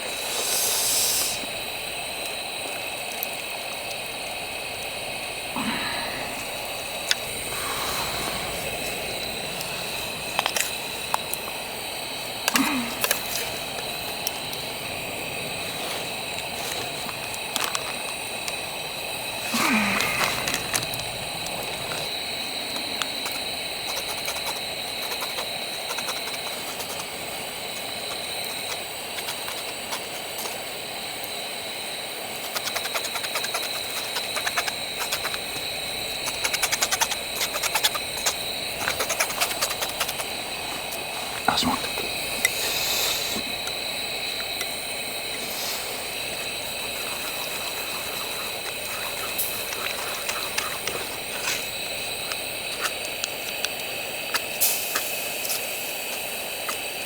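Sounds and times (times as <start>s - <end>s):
campfire crackling and popping: 1.4s - 57.0s.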